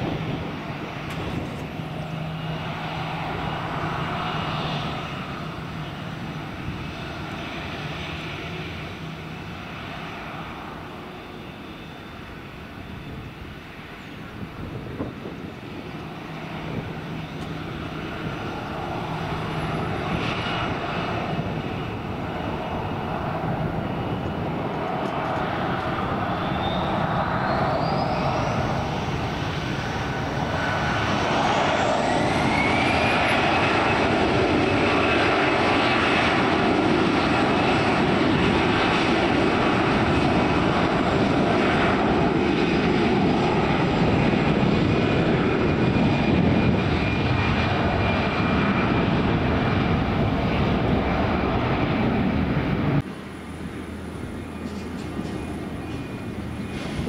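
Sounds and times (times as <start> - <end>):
airliner engines whining: 0.0 - 57.0.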